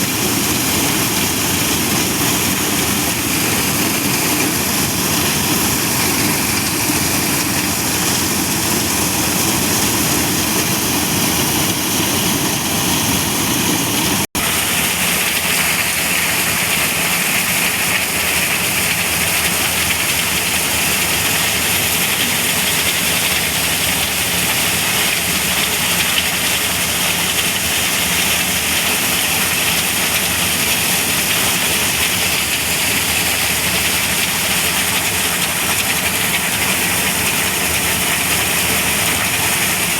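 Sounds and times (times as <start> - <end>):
rushing threshing noise: 0.0 - 39.9
thresher engine drone: 0.0 - 39.9.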